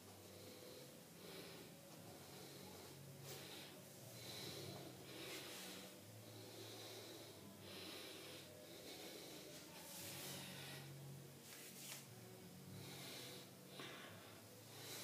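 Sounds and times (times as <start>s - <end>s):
person breathing heavily: 0.0s - 12.0s, 12.6s - 15.0s.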